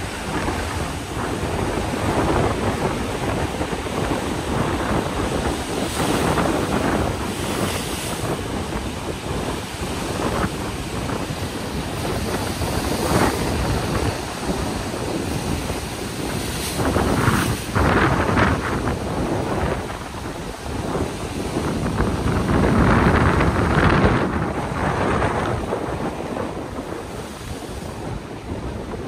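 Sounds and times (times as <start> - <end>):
sea waves breaking on shore: 0.0 - 29.0
wind buffeting microphone: 0.0 - 29.0.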